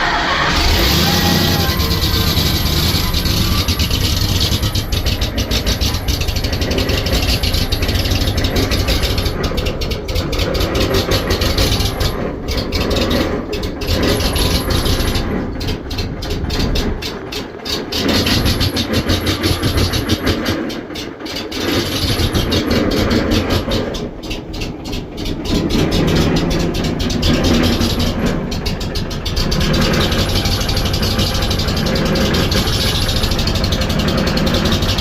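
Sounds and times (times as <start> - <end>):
engine idling roughly: 0.0 - 35.0.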